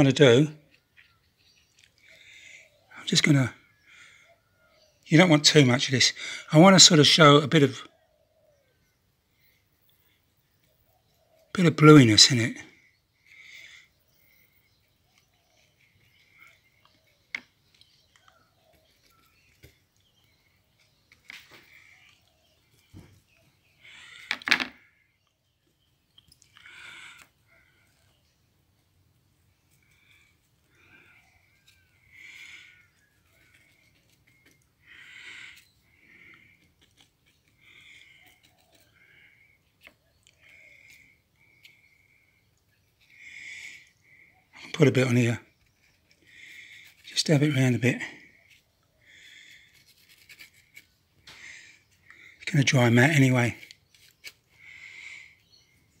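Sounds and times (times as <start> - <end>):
faint bird calls: 0.0 - 56.0.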